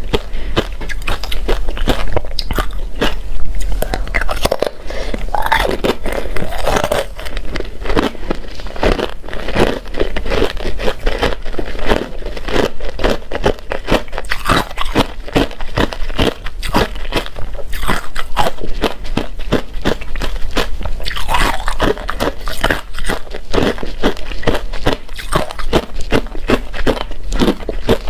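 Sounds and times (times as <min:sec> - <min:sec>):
person chewing crunchy ice: 0:00.0 - 0:28.0.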